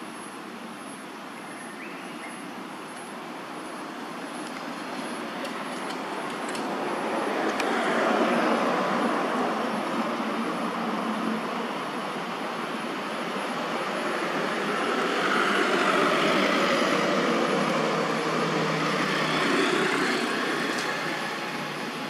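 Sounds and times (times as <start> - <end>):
steady rushing noise: 3.6 - 22.0.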